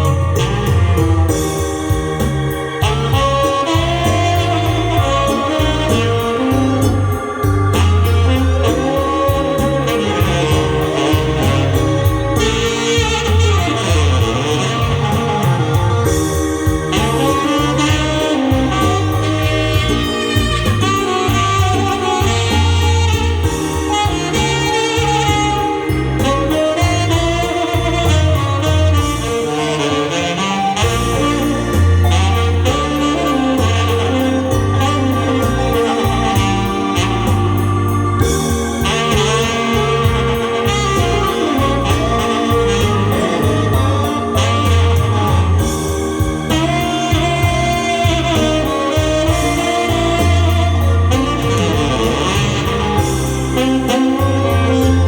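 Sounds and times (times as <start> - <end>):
backing track of bass drums keys: 0.0 - 55.0
band accompaniment: 0.0 - 55.0
tenor saxophone melody: 0.0 - 55.0.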